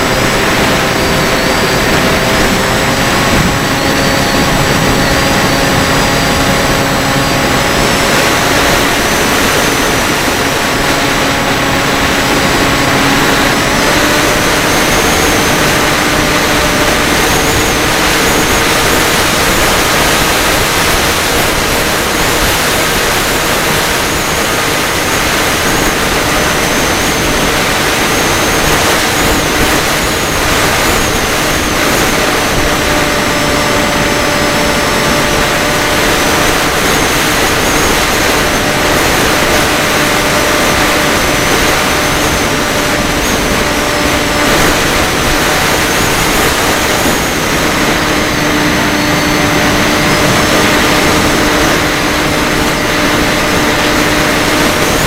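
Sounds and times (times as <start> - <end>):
drone motors whining: 0.0 - 55.0
rush of air: 0.0 - 55.0.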